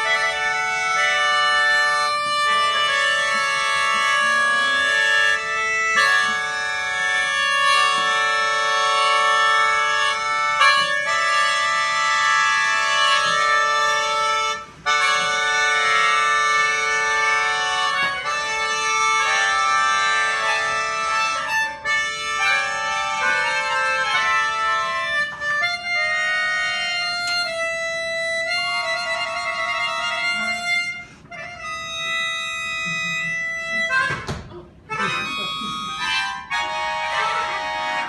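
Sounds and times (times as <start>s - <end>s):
free-reed keyboard slow melody: 0.0s - 38.0s.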